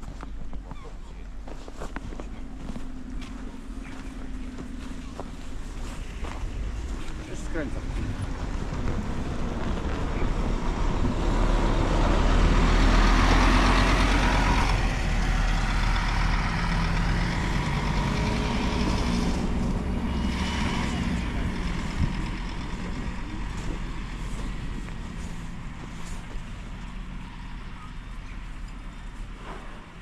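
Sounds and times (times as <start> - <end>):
heavy vehicle engine passing: 2.8 - 30.0.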